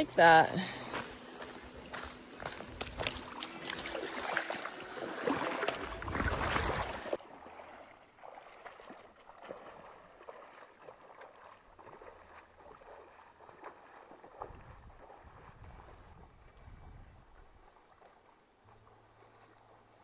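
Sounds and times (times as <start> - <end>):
water splashing around legs: 0.2 - 16.8, 17.5 - 20.0.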